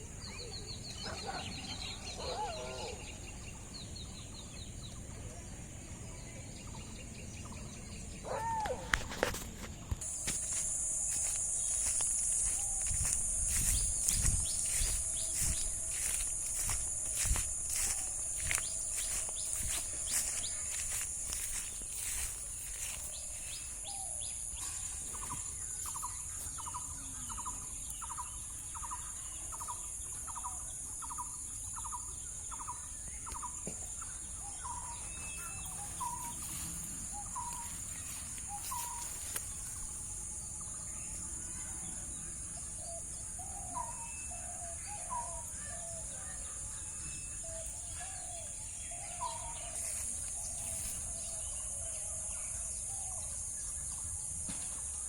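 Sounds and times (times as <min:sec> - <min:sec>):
bird calling: 0:00.0 - 0:05.0, 0:06.6 - 0:53.4
high-pitched insect drone: 0:10.0 - 0:54.8.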